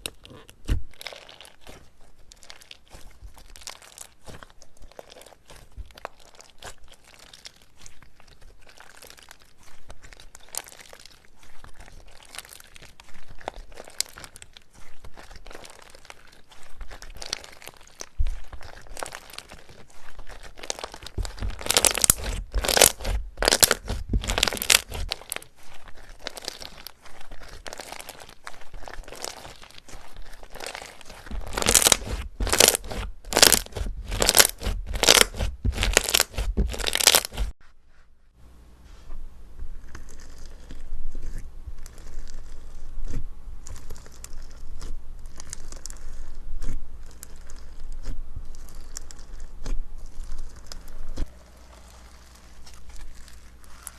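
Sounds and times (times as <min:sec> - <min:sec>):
slime crackling and crunching: 0:00.0 - 0:37.6, 0:39.6 - 0:53.9.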